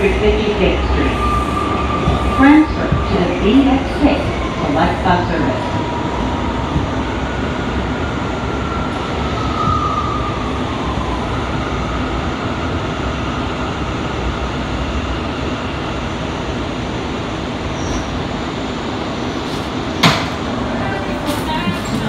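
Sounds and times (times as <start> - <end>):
subway train wheels rumbling: 0.0 - 22.0.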